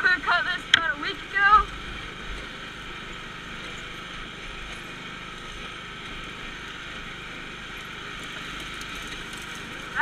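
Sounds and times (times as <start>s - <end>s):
riding lawn mower engine: 0.0s - 10.0s.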